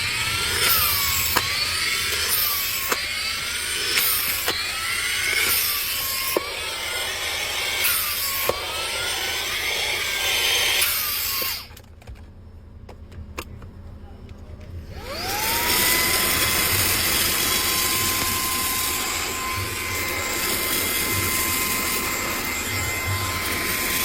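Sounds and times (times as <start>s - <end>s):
vacuum cleaner running: 0.0s - 11.8s, 14.9s - 24.0s.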